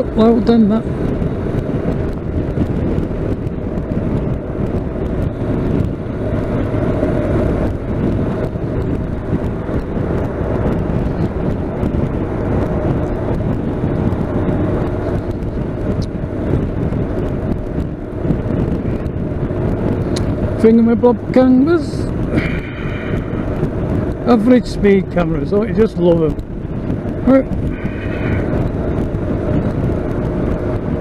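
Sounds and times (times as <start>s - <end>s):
motorcycle engine running: 0.0s - 31.0s
wind and road noise: 0.0s - 31.0s.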